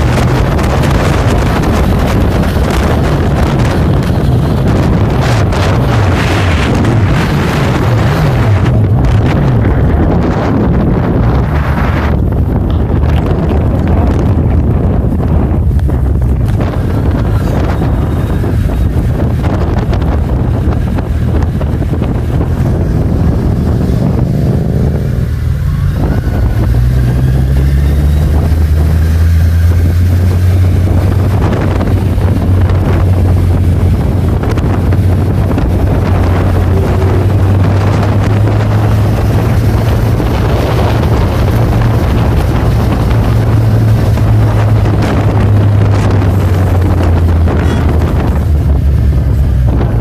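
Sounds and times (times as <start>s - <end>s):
motorcycle engine running: 0.0s - 50.0s
wind buffeting microphone: 0.0s - 50.0s.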